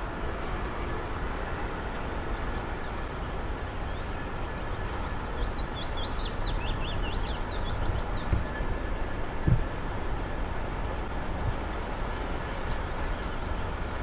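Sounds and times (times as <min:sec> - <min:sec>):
diesel train rumbling: 0:00.0 - 0:14.0.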